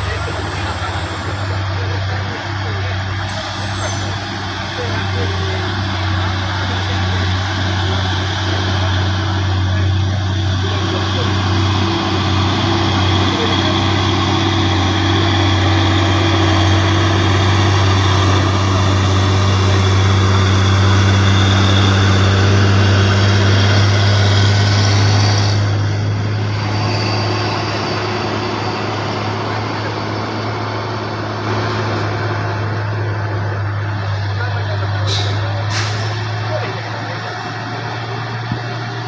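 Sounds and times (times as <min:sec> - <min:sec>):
truck diesel engine running: 0:00.0 - 0:39.0.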